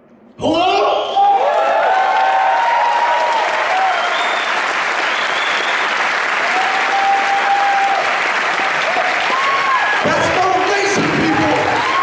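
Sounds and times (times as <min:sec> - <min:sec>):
audience applauding: 0:01.4 - 0:12.0.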